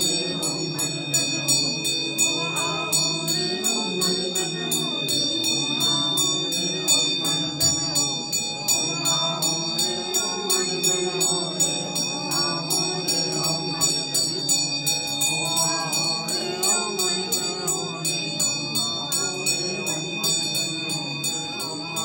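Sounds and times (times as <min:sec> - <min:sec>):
small metal bell ringing: 0:00.0 - 0:22.0
voices chanting: 0:00.0 - 0:22.0.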